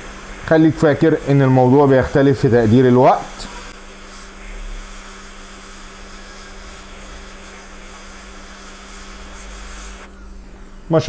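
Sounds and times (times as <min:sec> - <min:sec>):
hot air station hissing: 0:00.0 - 0:11.0.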